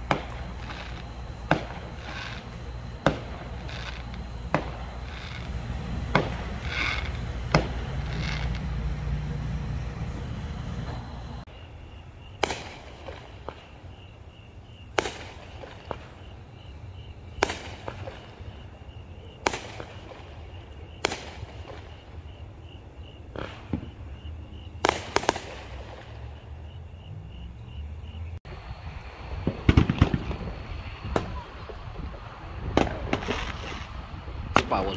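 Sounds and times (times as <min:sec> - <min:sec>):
fireworks bangs: 0:00.0 - 0:28.4, 0:29.0 - 0:34.9.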